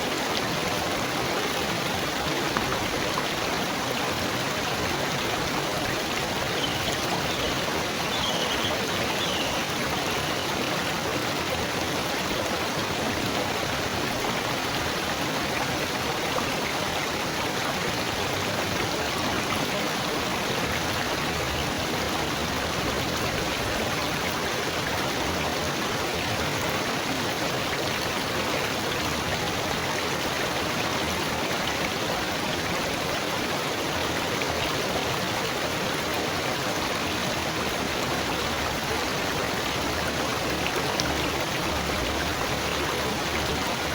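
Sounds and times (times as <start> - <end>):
running water babbling: 0.0 - 43.9.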